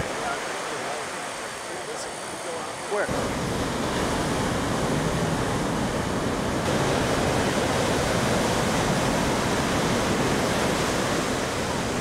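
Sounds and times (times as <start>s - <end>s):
heavy ocean surf breaking: 0.0s - 12.0s.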